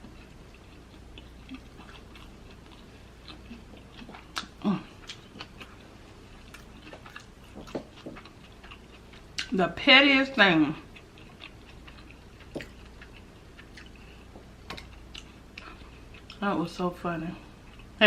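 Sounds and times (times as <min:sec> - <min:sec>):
chewing with wet mouth smacks: 0:00.0 - 0:09.6, 0:10.7 - 0:16.4.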